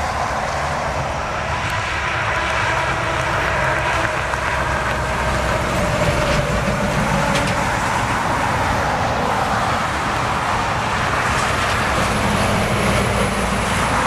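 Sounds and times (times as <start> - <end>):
bus approaching: 0.0 - 14.0
truck passing on highway: 0.0 - 14.0.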